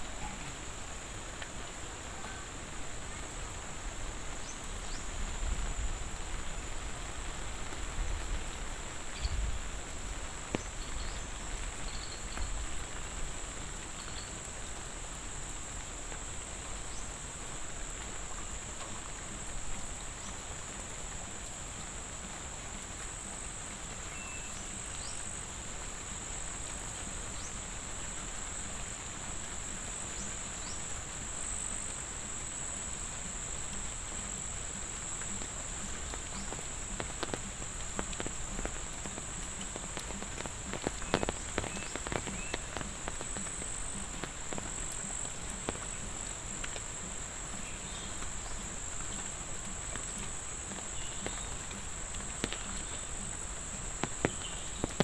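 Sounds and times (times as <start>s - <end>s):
crickets trilling: 0.0s - 55.0s
rain hiss: 0.0s - 55.0s.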